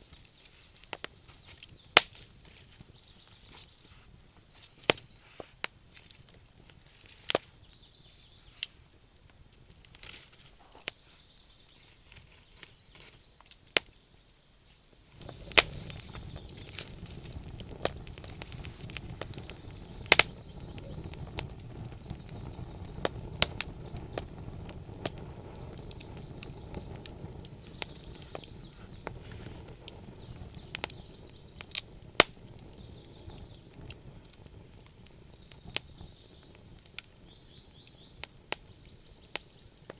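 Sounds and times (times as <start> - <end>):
low rushing of flames: 0.0 - 13.9, 15.0 - 39.9
wood fire crackling and popping: 0.0 - 39.9.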